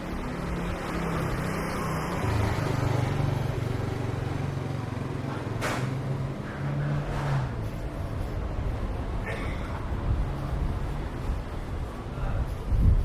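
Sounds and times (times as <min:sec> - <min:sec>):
street noise: 0:00.0 - 0:13.0
vehicle engine humming: 0:00.0 - 0:13.0.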